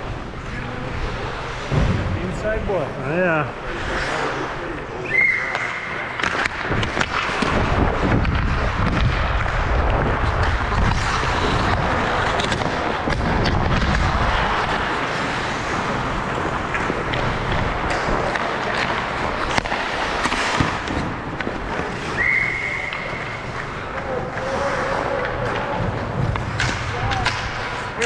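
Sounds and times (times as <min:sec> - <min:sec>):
skates scraping ice: 0:00.0 - 0:28.0
hockey sticks knocking puck: 0:05.2 - 0:28.0.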